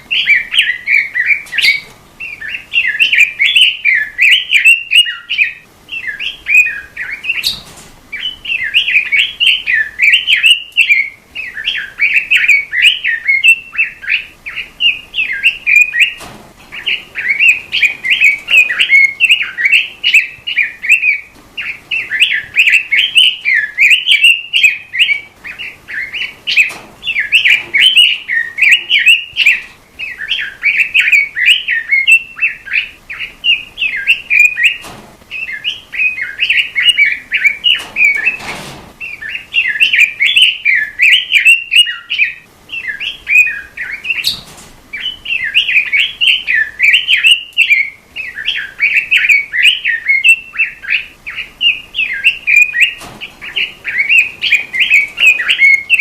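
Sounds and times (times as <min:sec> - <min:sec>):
songbird warbling: 0:00.0 - 0:38.4, 0:39.0 - 0:56.0.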